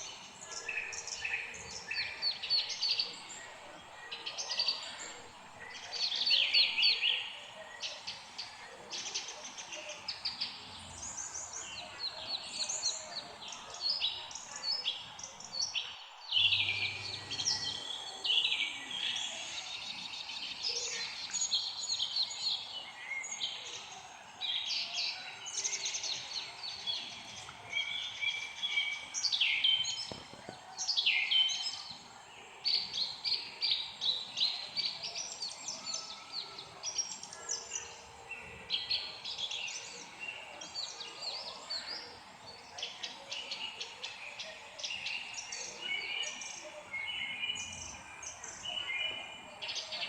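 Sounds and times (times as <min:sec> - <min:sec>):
songbirds chirping chorus: 0:00.0 - 0:50.0.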